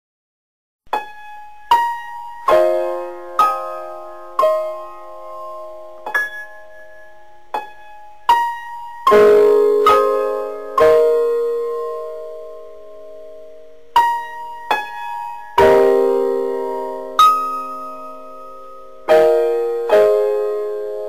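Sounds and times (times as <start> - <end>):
slow solo piano: 0.9 - 21.0.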